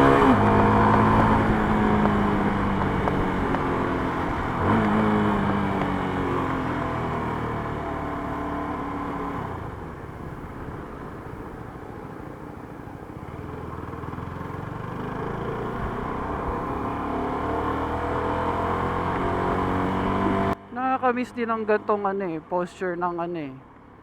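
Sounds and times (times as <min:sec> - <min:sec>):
motorcycle engine revving: 0:00.0 - 0:11.8, 0:12.6 - 0:21.0.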